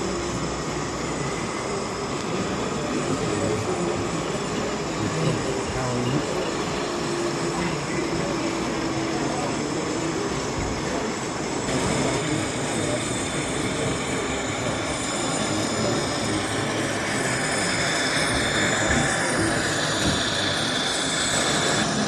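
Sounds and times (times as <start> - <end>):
model trains running: 0.0 - 22.0
murmur of the hall: 0.0 - 22.0.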